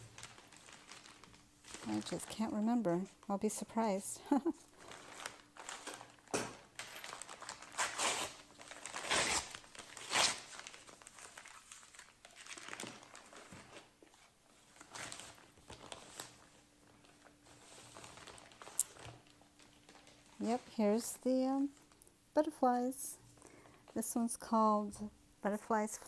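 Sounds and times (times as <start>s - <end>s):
packaging crinkling and rustling: 0.0s - 3.4s, 4.3s - 22.1s.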